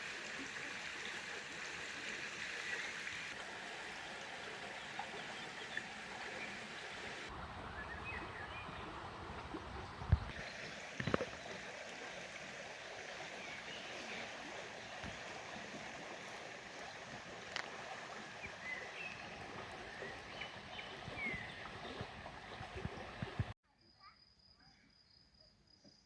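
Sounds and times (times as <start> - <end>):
stream water rushing: 0.0 - 23.6.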